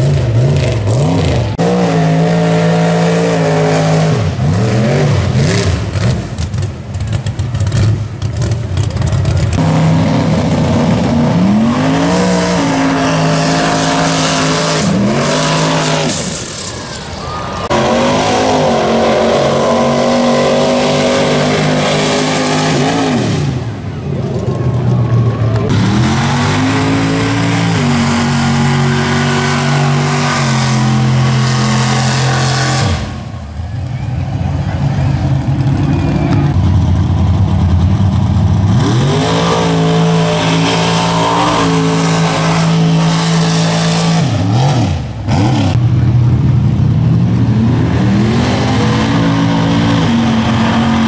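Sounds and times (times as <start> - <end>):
truck engines revving: 0.0 - 51.0.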